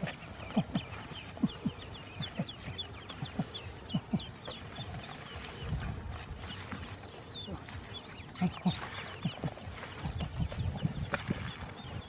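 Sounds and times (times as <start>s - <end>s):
ducklings peeping: 0.0s - 12.0s
low clucking calls: 0.0s - 12.0s.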